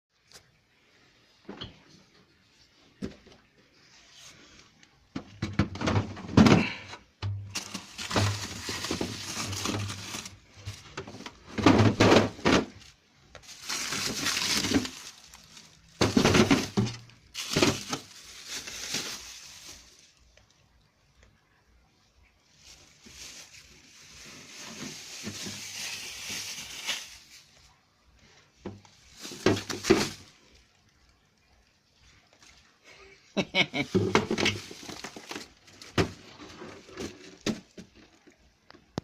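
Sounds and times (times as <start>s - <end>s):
clattering and rustling of objects: 1.2s - 21.5s, 22.3s - 33.0s, 33.7s - 39.0s.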